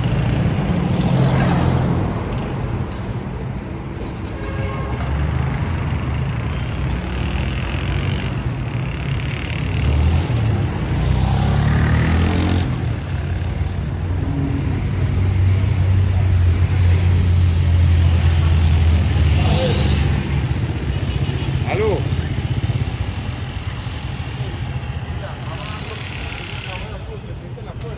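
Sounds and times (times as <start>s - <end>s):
vehicle engines rumbling: 0.0s - 27.9s.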